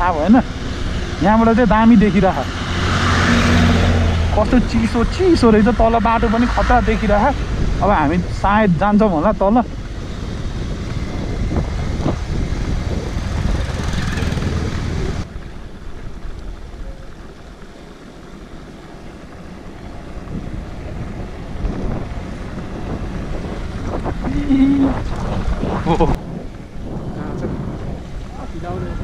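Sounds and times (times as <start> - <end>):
motorcycle engine: 0.0 - 29.0
road noise: 0.0 - 29.0
wind rushing over microphone: 0.0 - 29.0.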